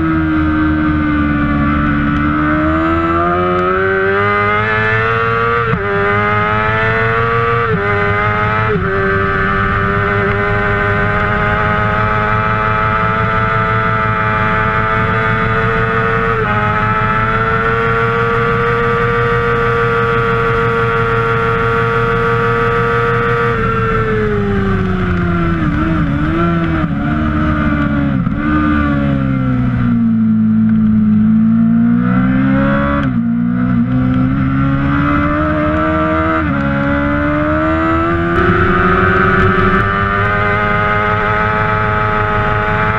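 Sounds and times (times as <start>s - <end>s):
motorcycle engine at high revs: 0.0s - 42.9s.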